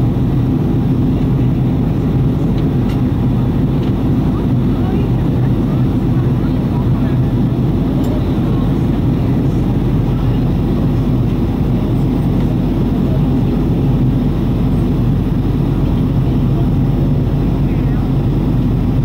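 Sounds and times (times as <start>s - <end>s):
jet engine drone and airflow: 0.0s - 19.0s.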